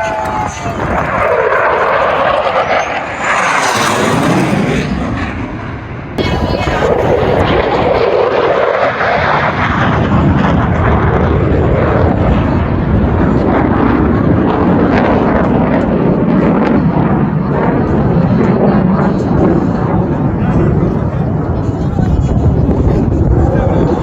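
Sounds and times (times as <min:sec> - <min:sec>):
jet engine roar overhead: 0:00.0 - 0:24.0.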